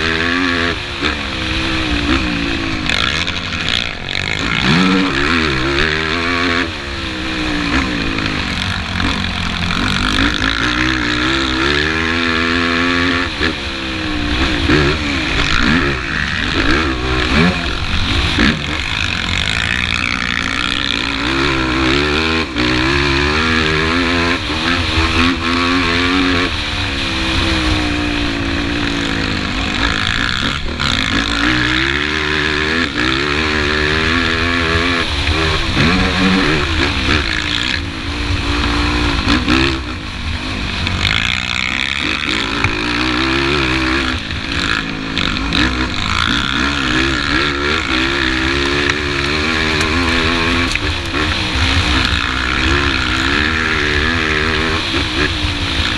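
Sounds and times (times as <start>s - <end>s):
quad engine revving: 0.0s - 55.9s
wind and track noise: 0.0s - 55.9s.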